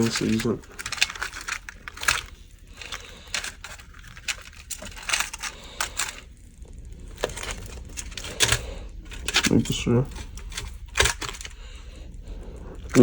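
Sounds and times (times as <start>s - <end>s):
kitchen utensils clicking: 0.0s - 6.2s, 7.2s - 11.6s.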